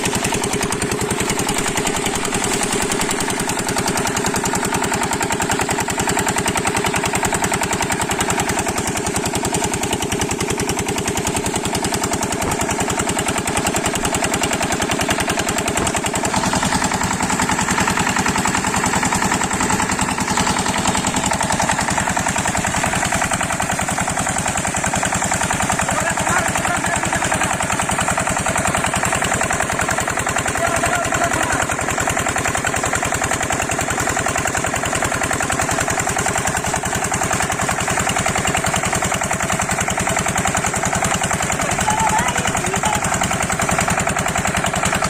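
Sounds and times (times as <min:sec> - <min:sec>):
diesel water pump engine running: 0:00.0 - 0:45.0.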